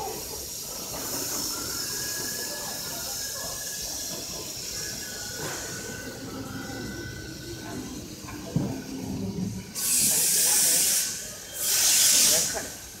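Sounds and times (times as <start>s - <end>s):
cnc router hissing: 0.0s - 13.0s.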